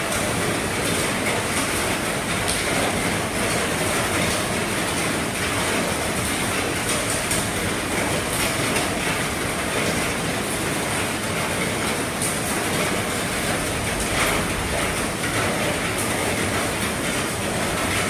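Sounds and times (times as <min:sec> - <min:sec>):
heavy rain on a roof: 0:00.0 - 0:18.0.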